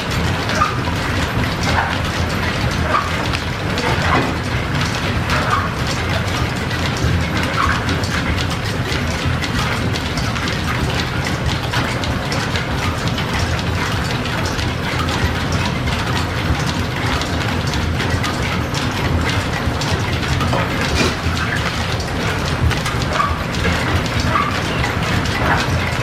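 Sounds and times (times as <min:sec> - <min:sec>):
machine tool clatter: 0:00.0 - 0:26.0.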